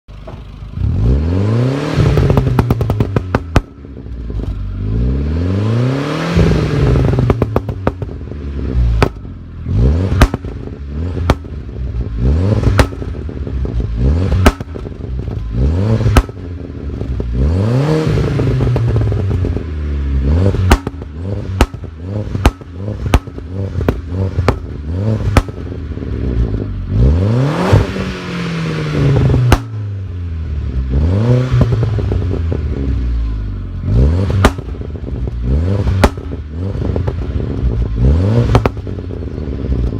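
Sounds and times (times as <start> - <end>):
exhaust pops and bangs: 0.1 - 0.6, 1.9 - 4.6, 6.3 - 17.4, 18.0 - 26.9, 27.5 - 28.2, 28.9 - 30.1, 31.4 - 33.0, 33.9 - 39.9
car engine revving: 0.2 - 39.9.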